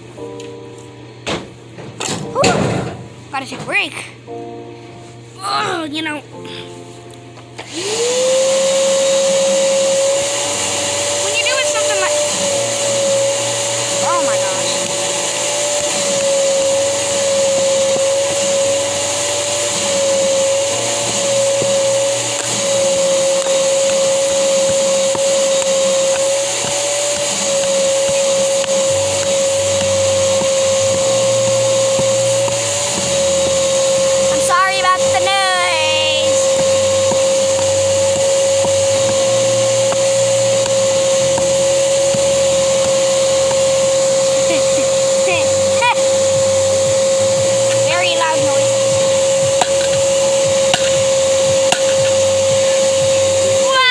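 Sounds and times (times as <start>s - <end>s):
small motor whine: 7.6s - 53.9s.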